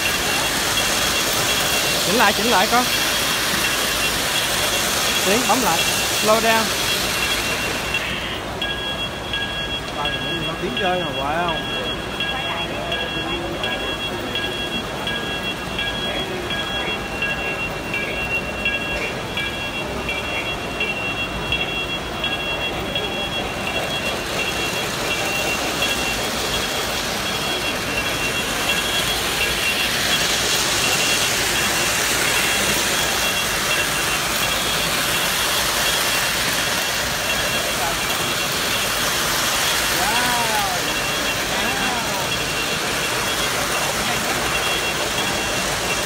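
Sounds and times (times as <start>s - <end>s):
crowd chatter: 0.0s - 46.0s
model train whirring and rattling: 0.0s - 46.0s
steady high-pitched tones: 0.0s - 46.0s.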